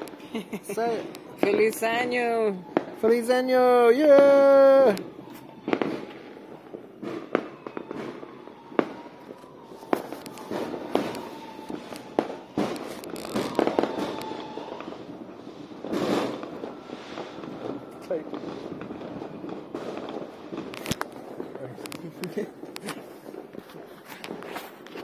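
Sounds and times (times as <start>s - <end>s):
firecracker crackling barrage: 0.0s - 25.0s
firework bangs: 0.0s - 25.0s.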